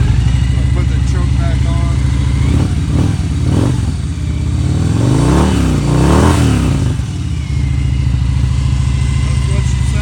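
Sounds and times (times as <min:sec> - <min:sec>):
motorcycle engine idling: 0:00.0 - 0:10.0
motorcycle throttle revving: 0:00.0 - 0:10.0.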